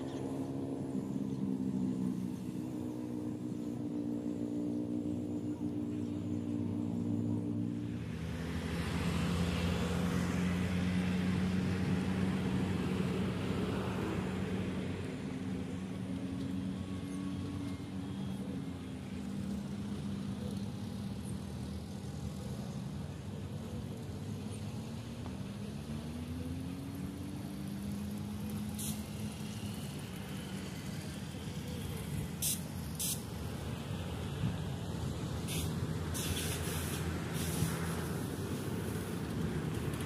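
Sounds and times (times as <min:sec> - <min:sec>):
low traffic rumble: 0:00.0 - 0:40.0
vehicle engine hum: 0:00.0 - 0:40.0.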